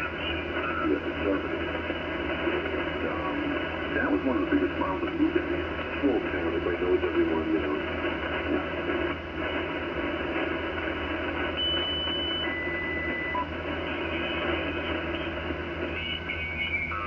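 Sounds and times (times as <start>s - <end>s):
radio static: 0.0s - 17.0s
radio whistling tone: 0.0s - 17.0s.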